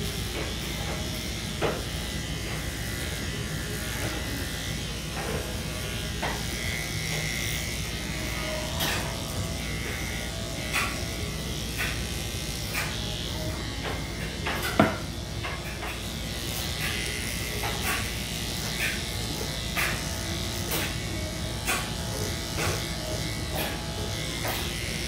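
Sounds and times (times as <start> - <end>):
electric clippers running: 0.0 - 25.0.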